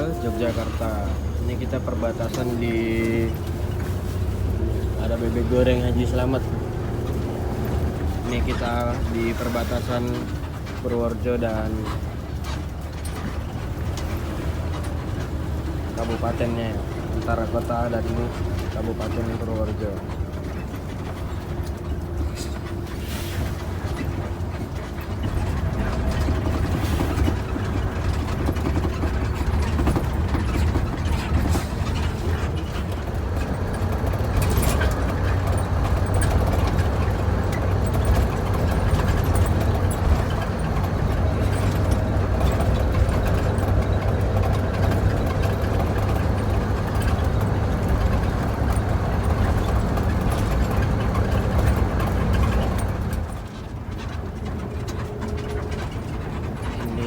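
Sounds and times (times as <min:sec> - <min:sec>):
bus engine running: 0:00.0 - 0:57.0
interior clicks and rattles: 0:00.0 - 0:57.0
road noise: 0:00.0 - 0:57.0.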